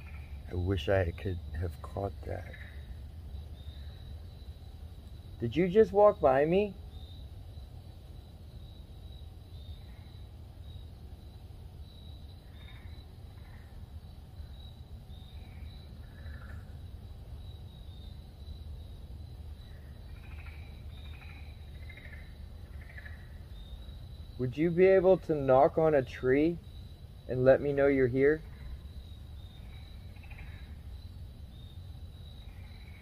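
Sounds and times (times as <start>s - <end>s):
low steady rumble: 0.0s - 33.0s.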